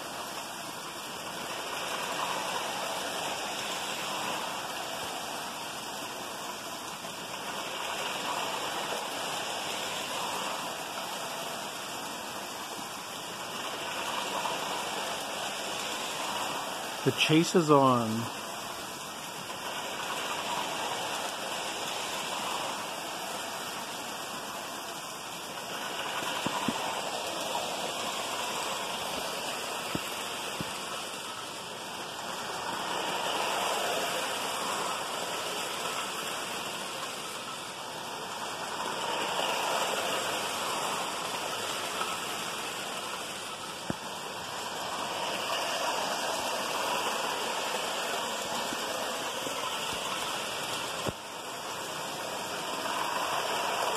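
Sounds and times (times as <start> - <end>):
model trains whirring: 0.0 - 53.9.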